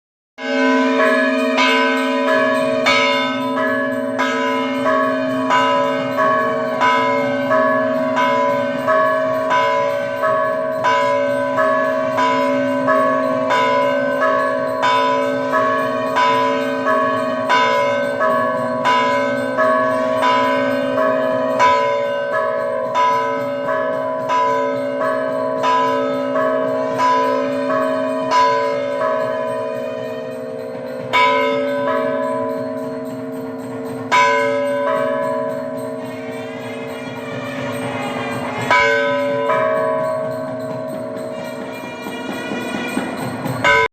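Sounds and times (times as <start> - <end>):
large bell ringing: 0.4 - 43.9.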